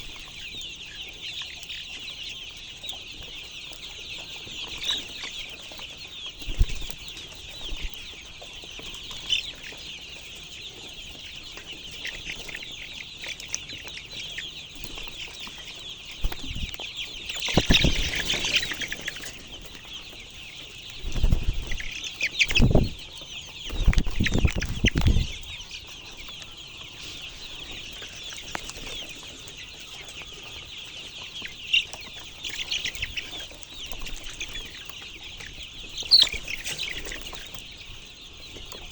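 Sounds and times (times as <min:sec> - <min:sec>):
chickens calling: 0:00.0 - 0:38.9.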